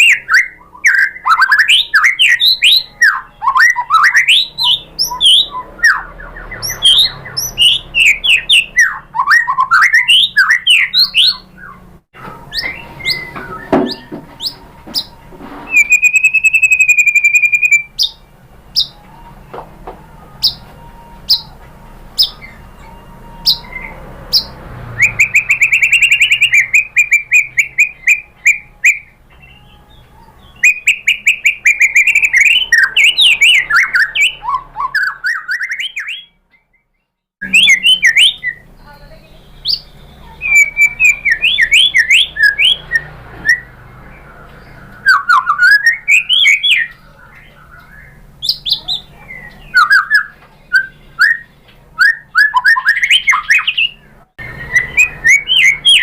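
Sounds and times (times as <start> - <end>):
bird singing whistled phrases: 0.0 - 15.1, 15.7 - 18.2, 18.8 - 19.1, 20.4 - 21.6, 22.2 - 43.8, 45.0 - 56.0.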